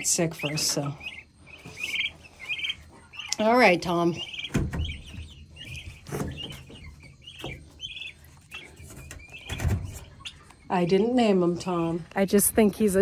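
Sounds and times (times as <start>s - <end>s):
young turkeys peeping: 0.0s - 13.0s.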